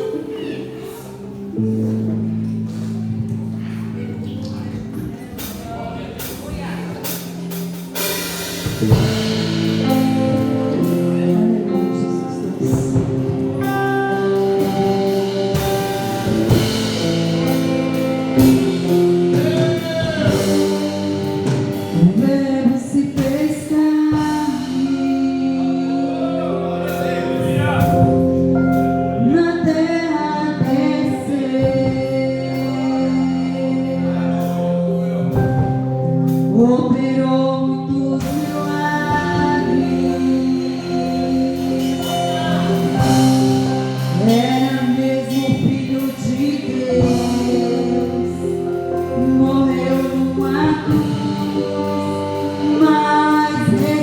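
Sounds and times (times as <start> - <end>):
person singing: 0.0 - 3.0, 7.7 - 54.0
band playing worship music: 0.0 - 54.0
drums: 0.0 - 54.0.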